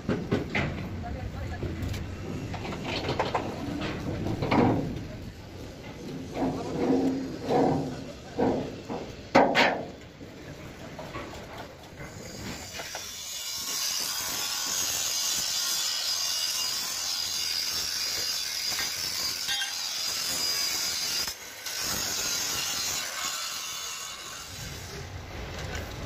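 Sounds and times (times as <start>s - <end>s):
metalworking hissing and crackling: 0.0s - 10.4s, 11.7s - 26.0s.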